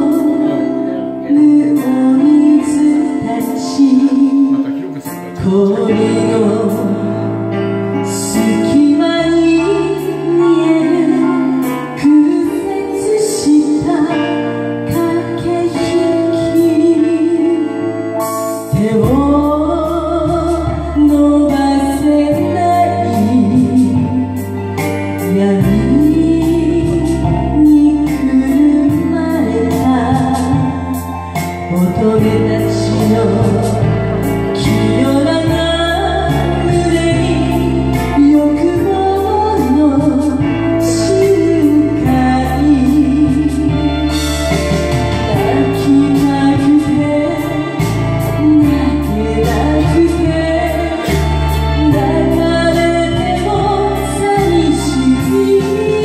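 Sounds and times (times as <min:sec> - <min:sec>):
instrumental backing music: 0:00.0 - 0:56.0
woman singing: 0:00.0 - 0:56.0.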